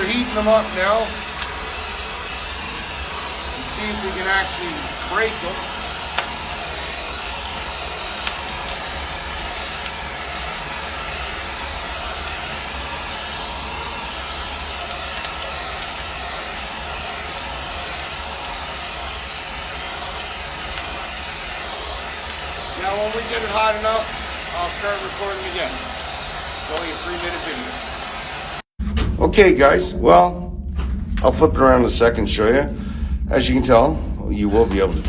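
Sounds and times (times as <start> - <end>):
low machinery hum: 0.0 - 28.1, 28.8 - 35.0
cutting torch flame hissing: 0.0 - 28.7.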